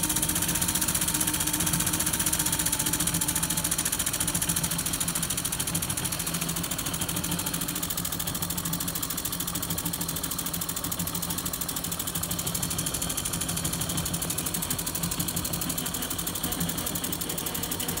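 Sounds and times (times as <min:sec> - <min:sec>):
model steam engine running: 0:00.0 - 0:18.0.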